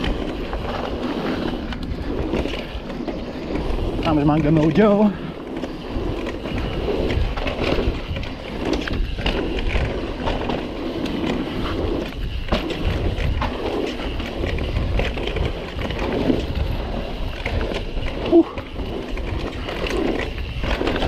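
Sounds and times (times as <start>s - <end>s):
bike tyres rolling on dirt: 0.0s - 21.0s
wind buffeting microphone: 0.0s - 21.0s.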